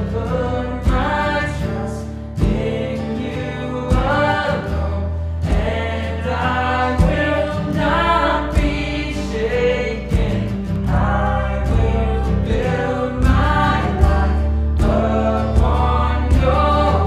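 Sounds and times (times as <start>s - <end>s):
acoustic guitar: 0.0s - 17.0s
electric bass: 0.0s - 17.0s
voices singing: 0.0s - 17.0s
cajon drum: 0.8s - 1.7s, 2.4s - 3.0s, 3.9s - 17.0s.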